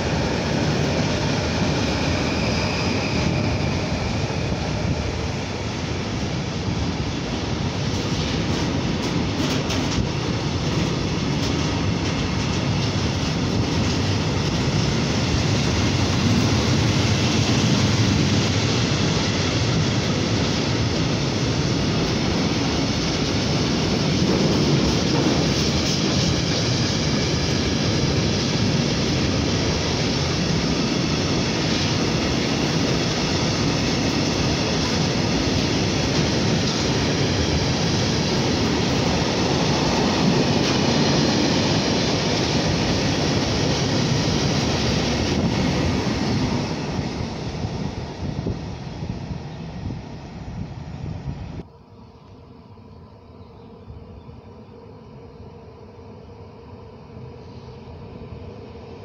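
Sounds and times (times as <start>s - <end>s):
train wheels rumbling on rails: 0.0s - 51.7s.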